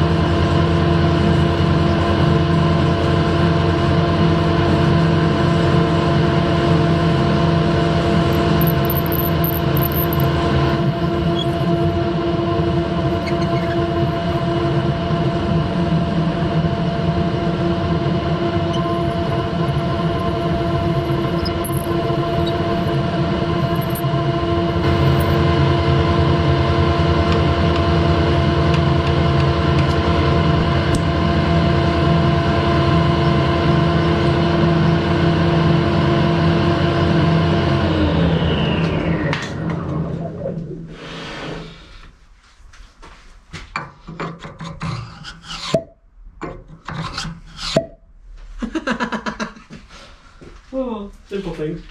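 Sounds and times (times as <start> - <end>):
lathe running with steady hum: 0.0 - 41.6.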